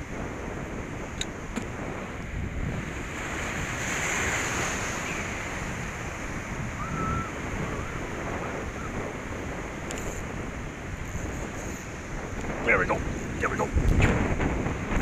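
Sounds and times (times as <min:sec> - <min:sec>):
surf crashing over rocks: 0:00.0 - 0:15.0
wind buffeting microphone: 0:00.0 - 0:15.0.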